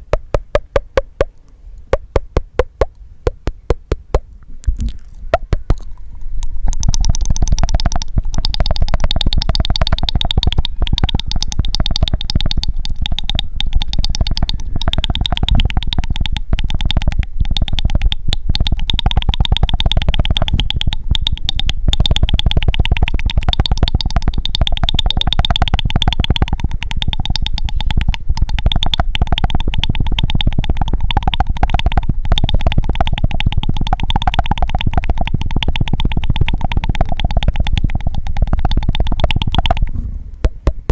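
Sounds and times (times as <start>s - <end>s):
wet tongue clicks: 0.0s - 40.9s.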